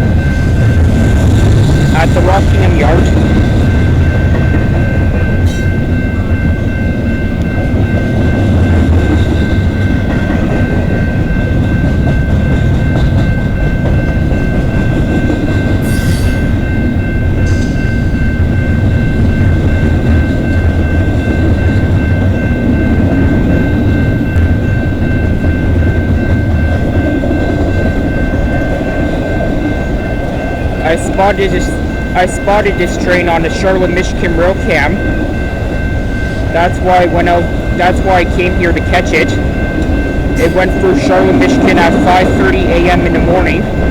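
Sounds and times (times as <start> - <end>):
freight train wheels rumbling on rail: 0.0 - 43.9
steady high tones: 0.0 - 43.9.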